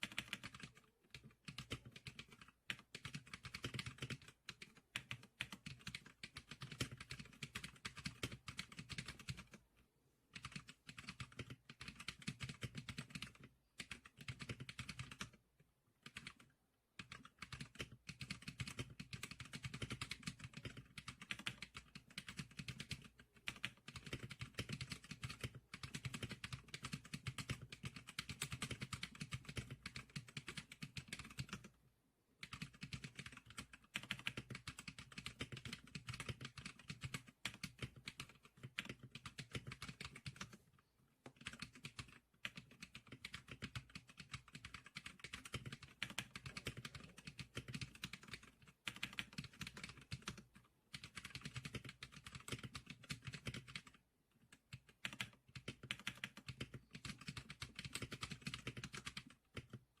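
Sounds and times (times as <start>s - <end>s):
keyboard key clicks typing: 0.0s - 9.6s, 10.3s - 15.4s, 16.0s - 31.8s, 32.4s - 40.6s, 41.2s - 59.8s.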